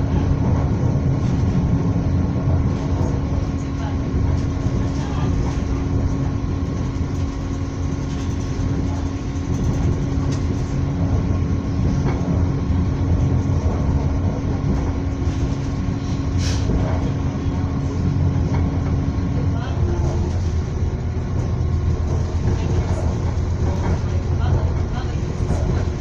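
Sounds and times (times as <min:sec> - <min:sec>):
constant hum: 0:00.0 - 0:26.0
train rumble: 0:00.0 - 0:26.0.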